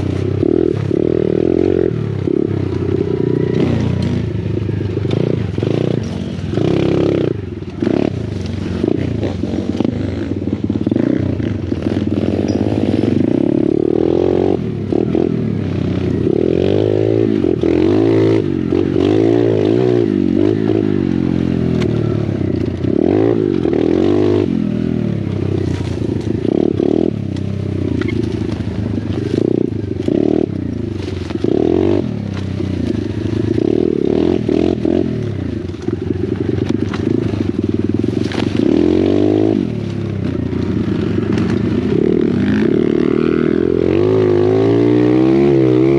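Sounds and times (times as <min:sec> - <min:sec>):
pit bike engines revving: 0:00.0 - 0:45.9.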